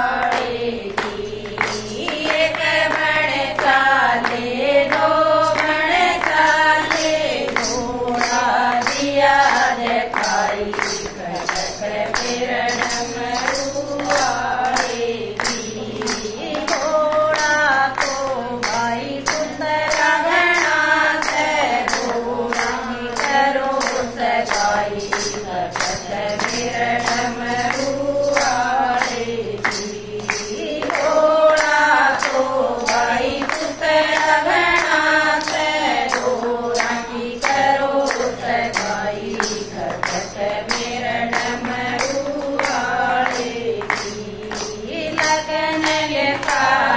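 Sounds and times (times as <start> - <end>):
hand claps: 0.0 - 46.9
women singing together: 0.0 - 46.9.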